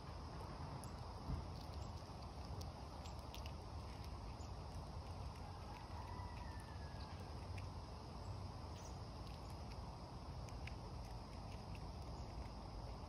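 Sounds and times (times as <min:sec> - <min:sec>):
chipmunk chewing seeds: 0:00.0 - 0:13.0
low outdoor rumble: 0:00.0 - 0:13.0.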